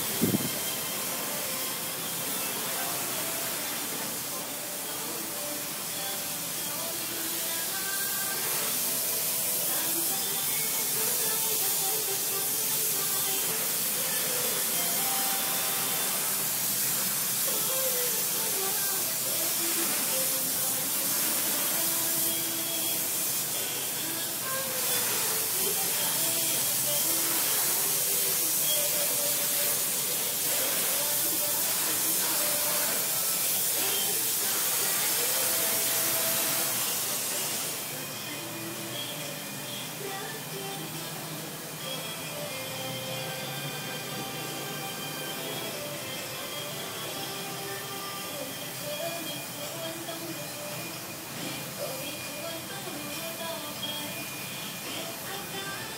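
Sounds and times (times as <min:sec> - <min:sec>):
faint music: 0:00.0 - 0:55.9
steady hiss: 0:00.0 - 0:55.9.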